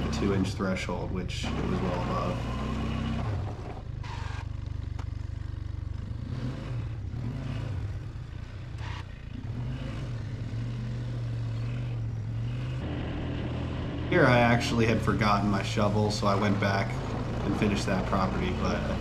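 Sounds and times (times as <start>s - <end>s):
atv engine running: 0.0s - 19.0s
plow scraping: 0.0s - 19.0s.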